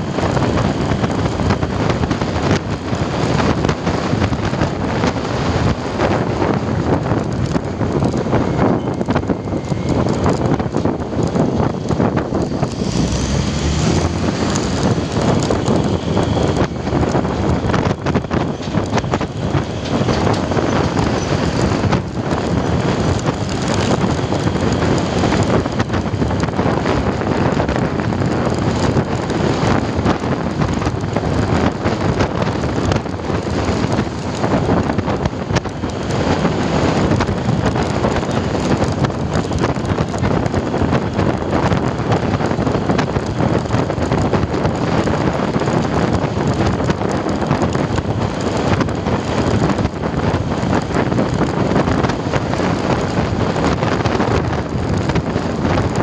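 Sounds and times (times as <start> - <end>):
motorcycle engine: 0.0 - 56.0
road noise: 0.0 - 56.0
wind rushing over microphone: 0.0 - 56.0.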